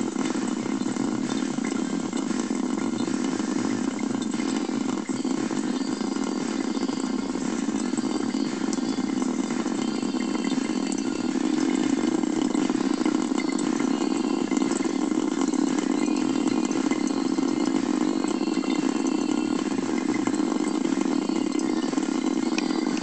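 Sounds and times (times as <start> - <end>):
faucet water running into sink: 0.0 - 23.0.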